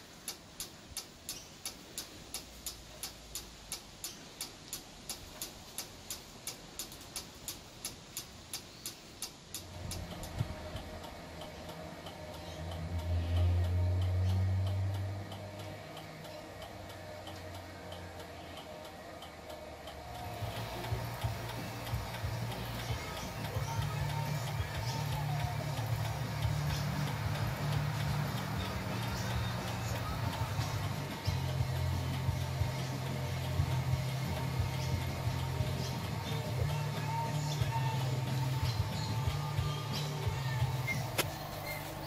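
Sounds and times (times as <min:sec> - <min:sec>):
beacon motor humming: 0:00.0 - 0:42.0
flasher relay clicking: 0:00.0 - 0:42.0.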